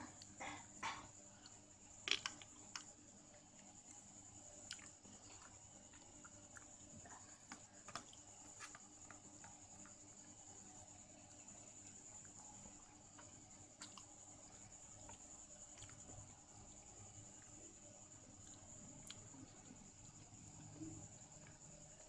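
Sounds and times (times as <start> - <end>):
faint high-pitched whine: 0.0 - 22.0.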